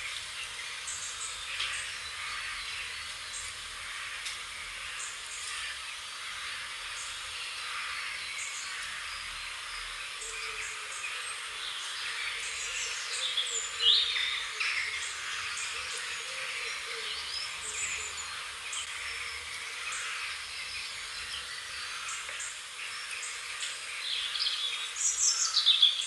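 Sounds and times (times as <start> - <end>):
high background hiss: 0.0 - 26.0
small birds chirping: 0.0 - 26.0.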